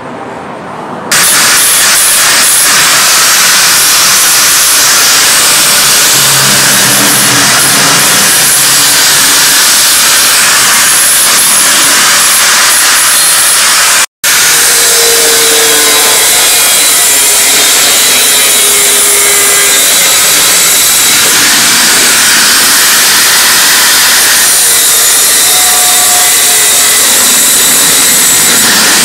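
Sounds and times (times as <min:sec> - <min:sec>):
angle grinder cutting a panel: 0:01.1 - 0:29.0.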